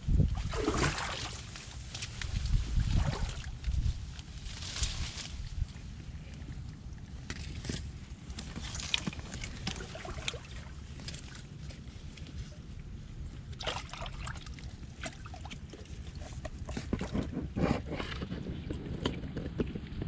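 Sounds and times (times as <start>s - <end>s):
muddy water sloshing and splashing: 0.1s - 5.3s, 6.6s - 17.6s.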